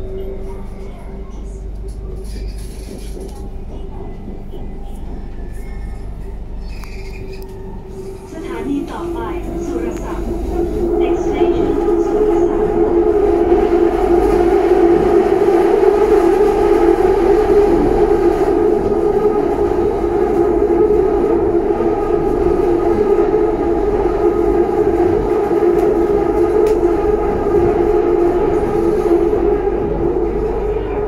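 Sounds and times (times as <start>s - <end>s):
train car rumble: 0.0s - 31.0s.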